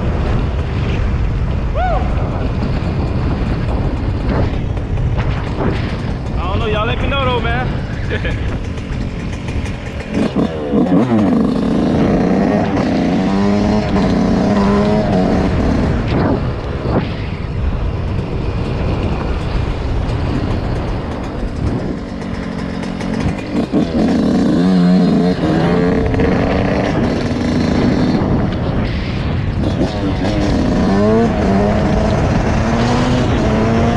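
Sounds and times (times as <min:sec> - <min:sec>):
dirt bike engine revving: 0:02.5 - 0:33.9.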